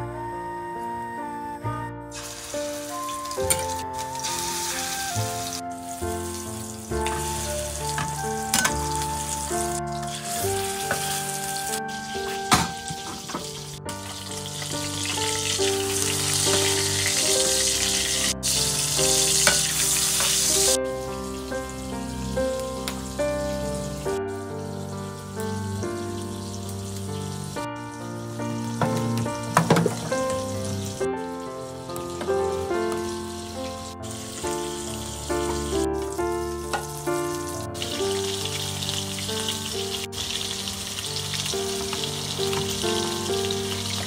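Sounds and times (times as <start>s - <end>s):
melodic background music: 0.0s - 44.0s
patties sizzling in frying pan: 2.1s - 27.6s, 32.0s - 44.0s.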